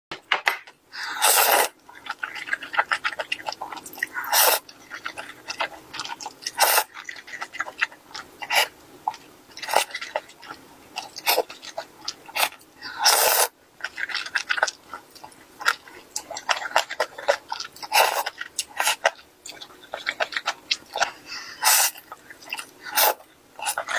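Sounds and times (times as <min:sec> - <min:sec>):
chewing crackles and clicks: 0:01.7 - 0:21.3, 0:21.9 - 0:23.9.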